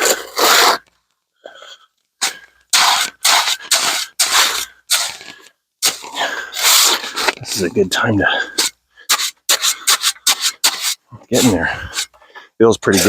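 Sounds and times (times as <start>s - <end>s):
tool scraping wet concrete: 0.0s - 0.9s, 2.2s - 12.2s.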